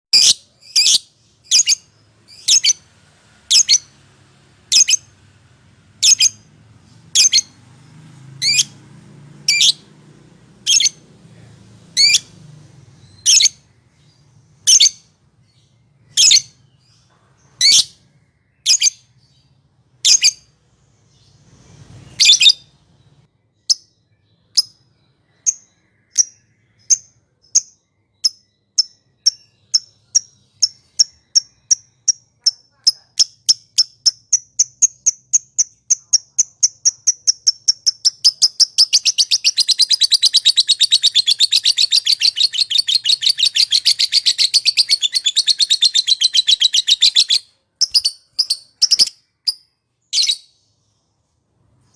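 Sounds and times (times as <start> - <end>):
lovebird chirping squawks: 0.1 - 4.0, 4.7 - 5.2, 6.0 - 6.5, 7.1 - 7.6, 8.4 - 8.8, 9.5 - 9.9, 10.6 - 11.0, 12.0 - 12.3, 13.0 - 19.4, 20.0 - 22.8, 24.5 - 50.6.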